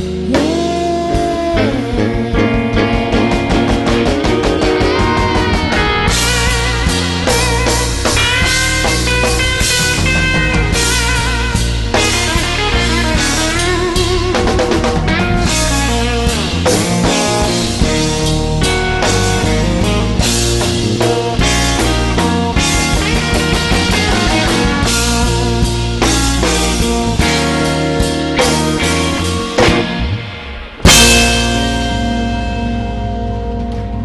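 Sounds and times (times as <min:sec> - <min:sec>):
bass guitar: 0:00.0 - 0:34.0
drum kit: 0:00.0 - 0:34.0
electric guitar lead: 0:00.0 - 0:34.0.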